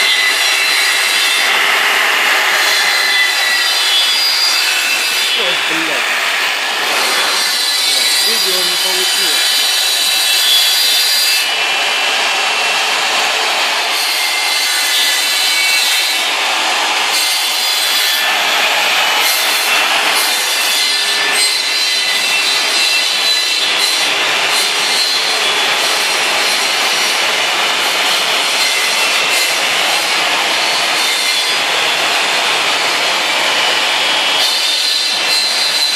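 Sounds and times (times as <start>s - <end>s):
wood lathe cutting wood: 0.0s - 35.9s.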